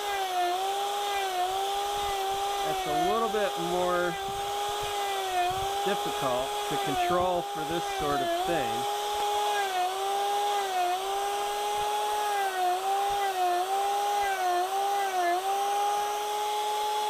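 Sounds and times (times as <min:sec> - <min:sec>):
power carving disc cutting wood: 0:00.0 - 0:17.0.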